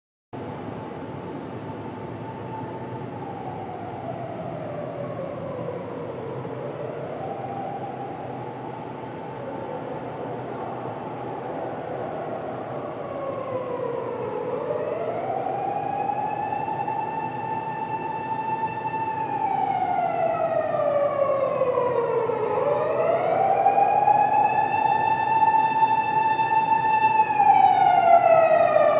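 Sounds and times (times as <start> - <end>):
emergency vehicle siren wailing: 0.4 - 28.9
road and tyre noise: 0.4 - 28.9.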